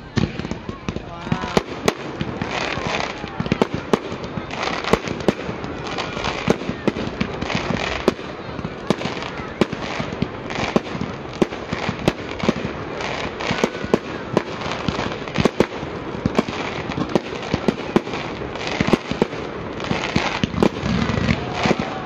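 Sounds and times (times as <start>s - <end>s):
crackle of sparks: 0.0s - 22.0s
fireworks bangs: 0.0s - 22.0s.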